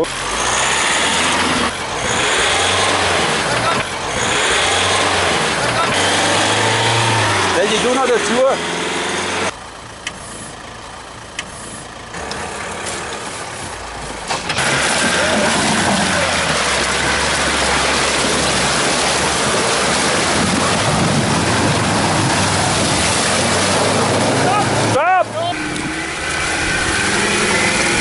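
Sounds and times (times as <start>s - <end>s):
truck splashing through water: 0.0s - 9.6s, 12.2s - 28.0s
truck engine humming: 0.0s - 28.0s.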